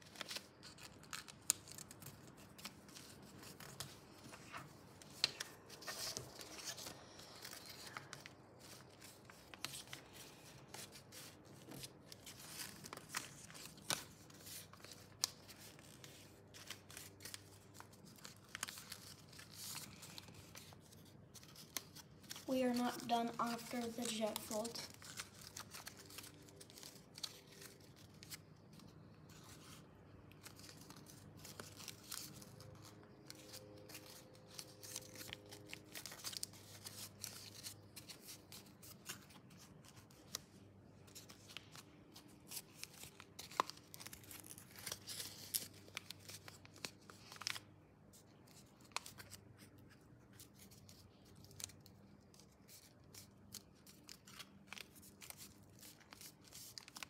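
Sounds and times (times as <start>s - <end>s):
paper rustling and crinkling: 0.0s - 57.0s.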